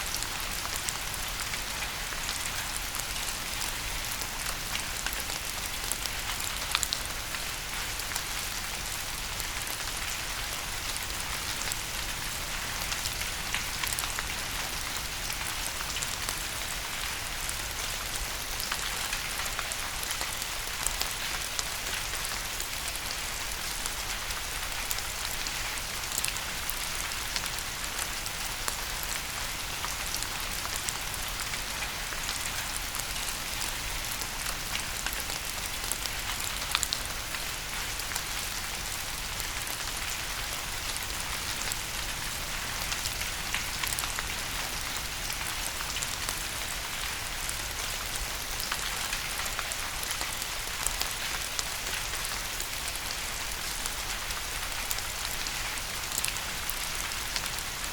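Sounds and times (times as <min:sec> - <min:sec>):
steady rain hiss: 0:00.0 - 0:57.9
raindrops ticking on a surface: 0:00.1 - 0:57.9.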